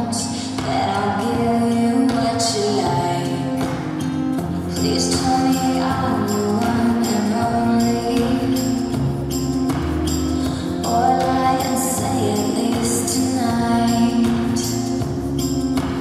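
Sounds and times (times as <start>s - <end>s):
recorded music with shimmering accents: 0.0s - 16.0s.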